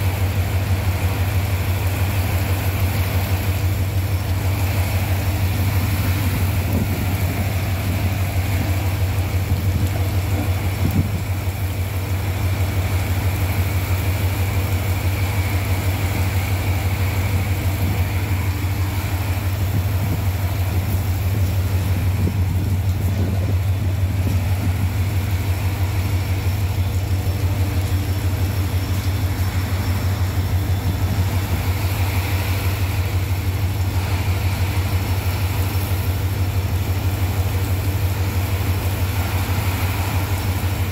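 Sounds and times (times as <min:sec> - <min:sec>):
engine idling: 0:00.0 - 0:40.9
heavy rain hissing: 0:00.0 - 0:40.9.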